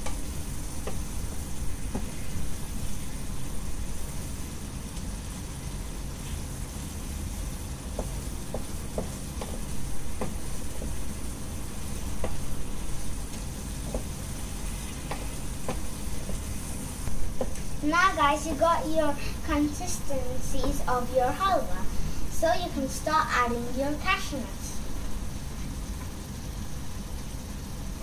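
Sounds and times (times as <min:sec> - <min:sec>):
bread sizzling in a frying pan: 0:00.0 - 0:28.0.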